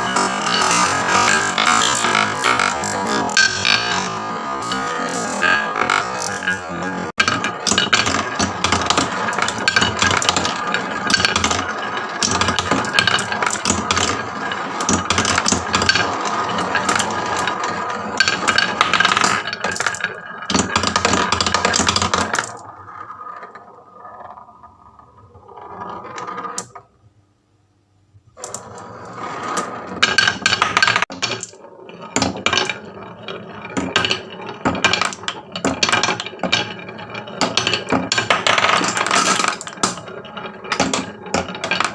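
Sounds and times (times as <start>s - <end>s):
marbles clacking down wooden run: 0.0s - 26.8s, 29.5s - 41.9s.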